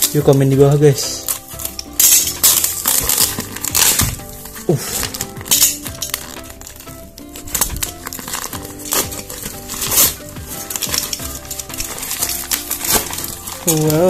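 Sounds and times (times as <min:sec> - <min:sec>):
background music: 0:00.0 - 0:14.0
plastic wrapping crinkling and tearing: 0:00.0 - 0:14.0.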